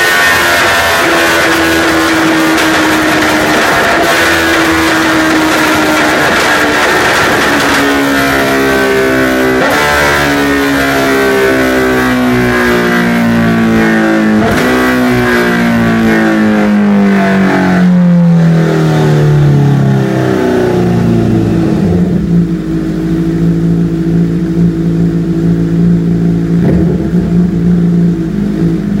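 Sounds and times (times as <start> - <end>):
motorcycle engine winding down: 0.0 - 29.0.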